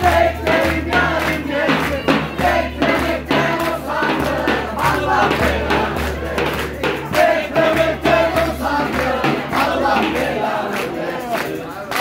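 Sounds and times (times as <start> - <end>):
bass drum beating: 0.0 - 10.7
crowd voices: 0.0 - 12.0.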